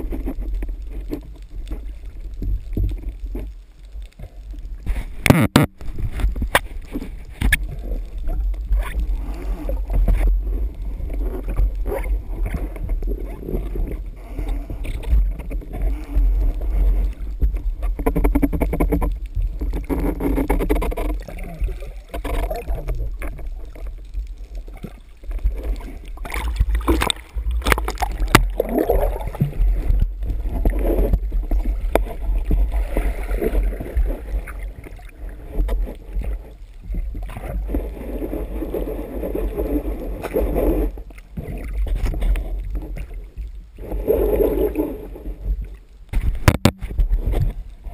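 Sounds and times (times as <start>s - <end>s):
water rushing and gurgling: 0.0s - 47.9s.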